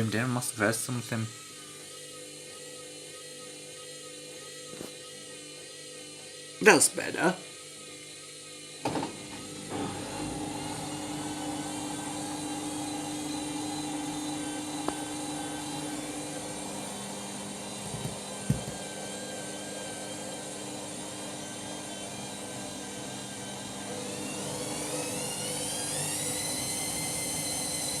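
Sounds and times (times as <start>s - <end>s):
washing machine motor whir: 0.0s - 28.0s.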